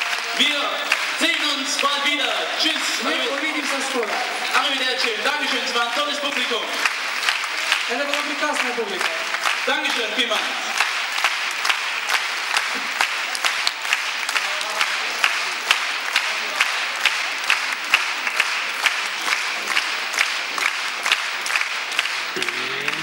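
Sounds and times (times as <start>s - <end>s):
audience clapping rhythmically: 0.0s - 23.0s.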